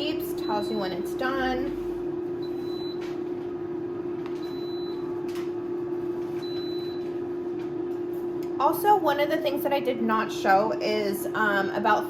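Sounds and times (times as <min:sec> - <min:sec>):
air fryer humming: 0:00.0 - 0:12.0.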